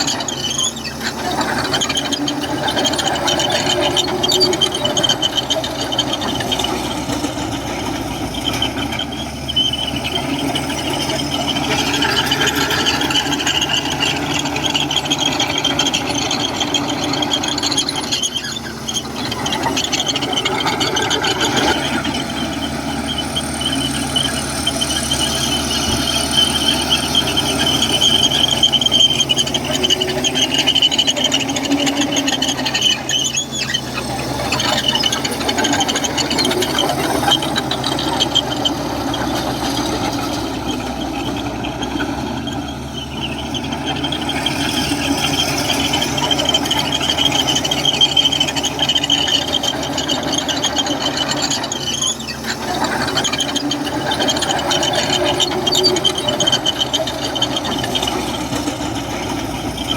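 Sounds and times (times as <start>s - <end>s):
bulldozer diesel engine running: 0.0s - 59.9s
steel tracks squealing: 0.0s - 59.9s.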